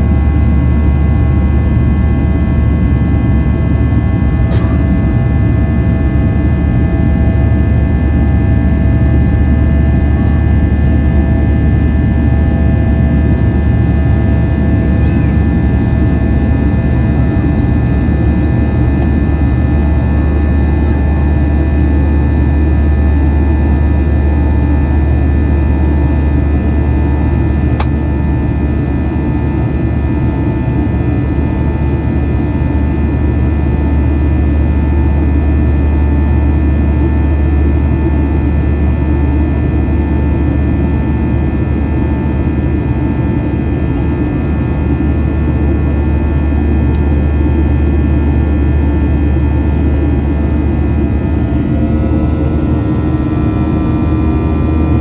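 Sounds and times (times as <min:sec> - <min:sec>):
engine whine: 0:00.0 - 0:55.0
jet engine rumble in cabin: 0:00.0 - 0:55.0.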